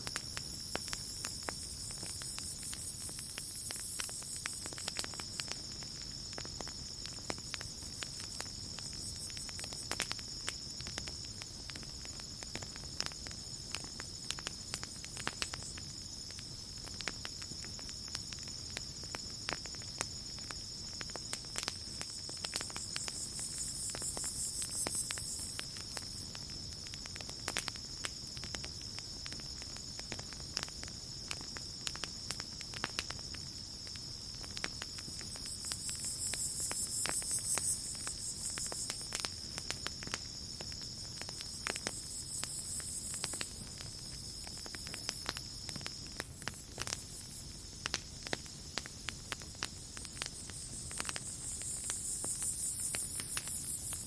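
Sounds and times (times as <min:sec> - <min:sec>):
campfire crackling and popping: 0:00.0 - 0:54.0
night insects chorus: 0:00.0 - 0:54.0.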